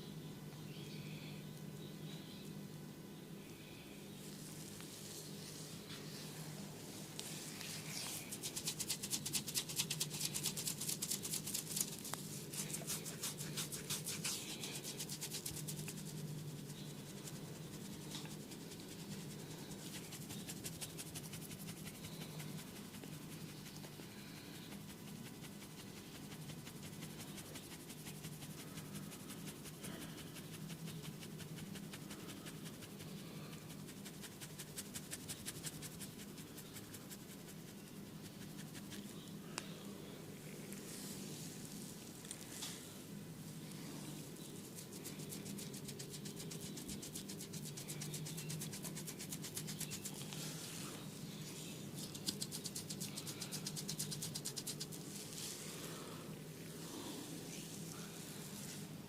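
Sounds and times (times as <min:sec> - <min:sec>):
hands rubbing hair: 0:04.2 - 0:39.6, 0:40.4 - 0:42.9, 0:43.6 - 0:56.1, 0:56.7 - 0:59.0.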